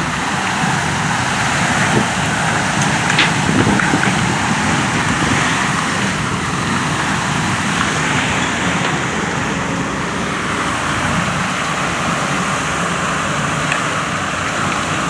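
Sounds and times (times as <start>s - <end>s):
water gushing loudly: 0.0s - 15.0s.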